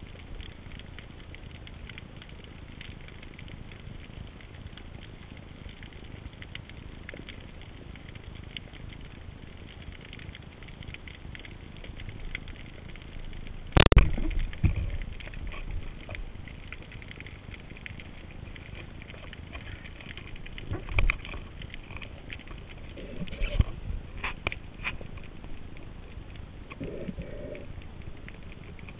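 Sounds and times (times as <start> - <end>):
underwater crackling clicks: 0.0 - 28.9.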